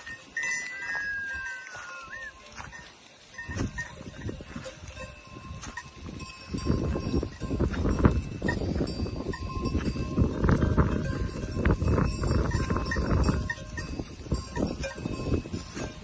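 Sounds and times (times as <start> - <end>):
sheep bells jangling: 0.0 - 16.0.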